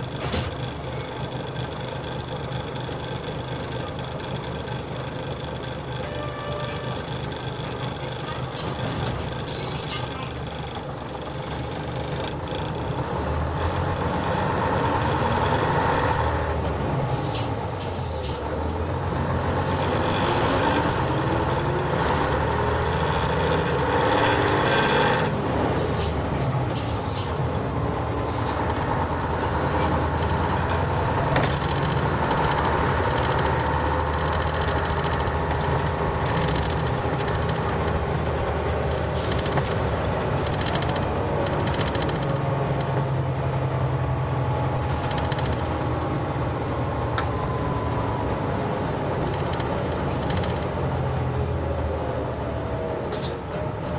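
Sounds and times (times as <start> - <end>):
bus diesel engine running: 0.0 - 53.9.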